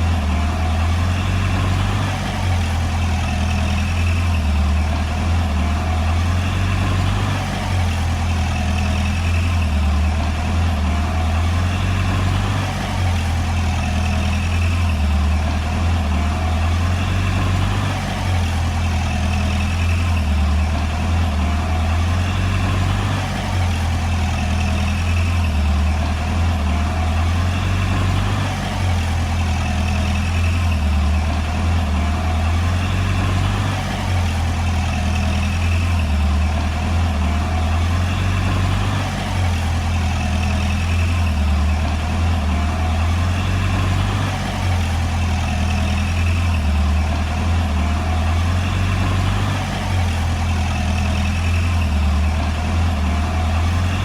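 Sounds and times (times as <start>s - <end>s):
heavy diesel engine droning: 0.0s - 54.0s.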